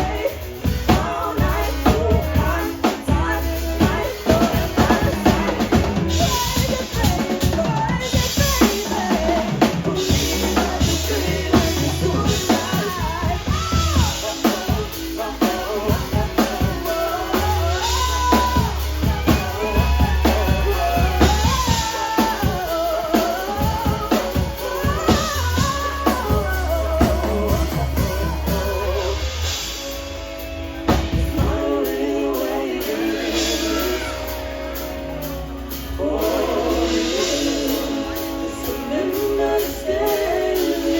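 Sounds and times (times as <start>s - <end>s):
drum kit: 0.0s - 40.9s
live band music: 0.0s - 40.9s
wavering lead melody: 0.0s - 40.9s.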